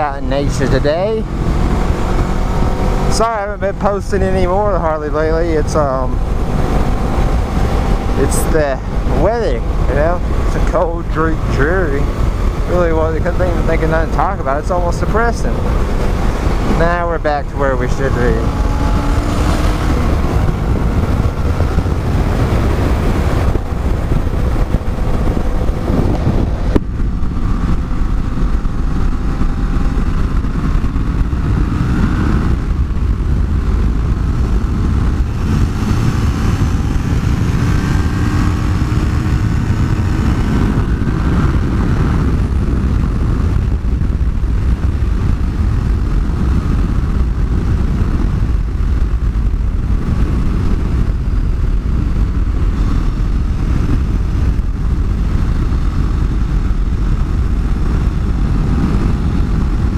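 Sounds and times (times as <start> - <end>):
motorcycle engine: 0.0 - 59.9
wind noise on microphone: 0.0 - 59.9.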